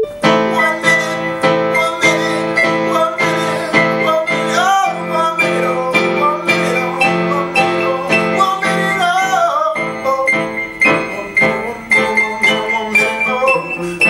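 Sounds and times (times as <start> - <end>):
electronic keyboard chords: 0.0 - 14.0
man singing: 0.1 - 14.0.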